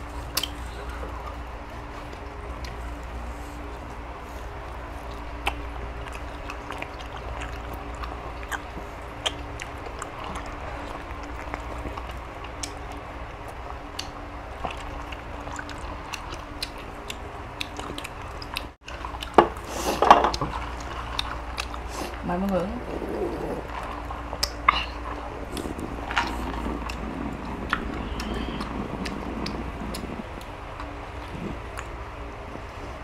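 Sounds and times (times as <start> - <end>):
people chewing food: 0.0 - 33.0
steady low hum: 0.0 - 33.0.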